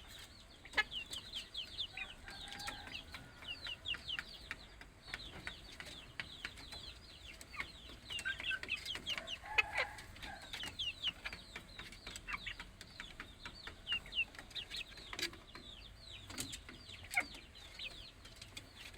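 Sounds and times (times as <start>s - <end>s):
chicken clucking: 0.0s - 18.9s
chicks peeping: 0.0s - 18.9s.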